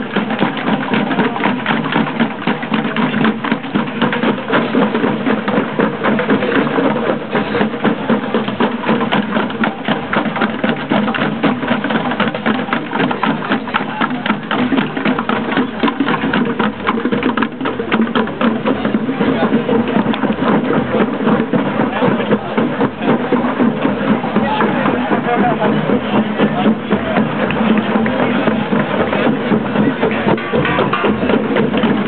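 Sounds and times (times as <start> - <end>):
hand drums playing fast beat: 0.0 - 32.0.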